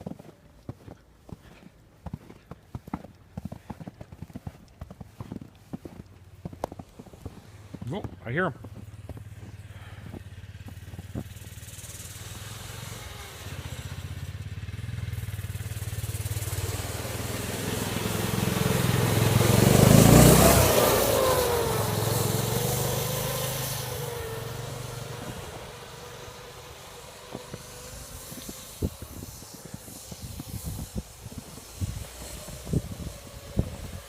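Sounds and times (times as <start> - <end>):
snowmobile engine passing by: 0.0 - 34.0.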